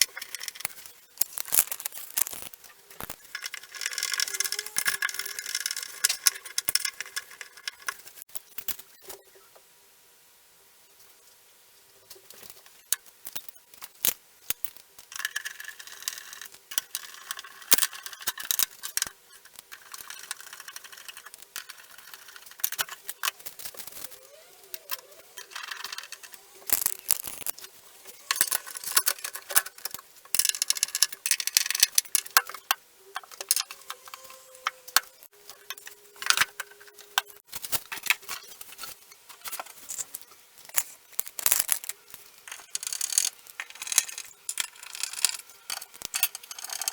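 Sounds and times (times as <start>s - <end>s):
scraping and rubbing: 0.0s - 8.3s, 15.8s - 46.9s
small metallic rattles: 0.0s - 8.3s, 14.6s - 46.9s.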